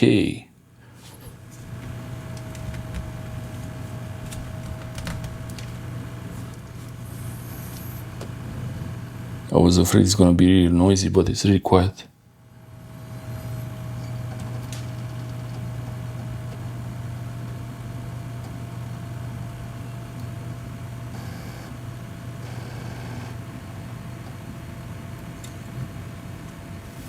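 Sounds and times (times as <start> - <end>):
hard drive low hum: 0.0 - 11.6, 12.3 - 27.0
thin steady whine: 0.0 - 27.0.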